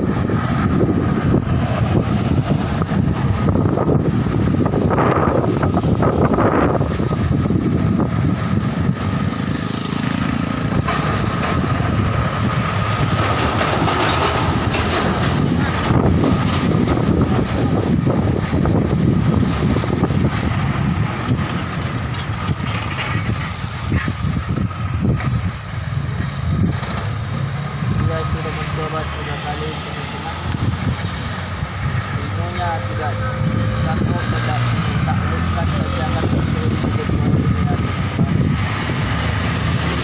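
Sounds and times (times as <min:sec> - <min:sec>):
cars passing: 0:00.0 - 0:40.0
diesel truck engines rumbling: 0:00.0 - 0:40.0
motorcycles passing: 0:00.0 - 0:40.0.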